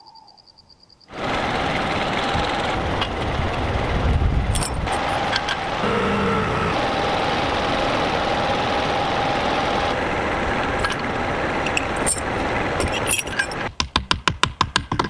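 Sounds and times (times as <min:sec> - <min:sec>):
small engine whining: 0:01.1 - 0:13.7.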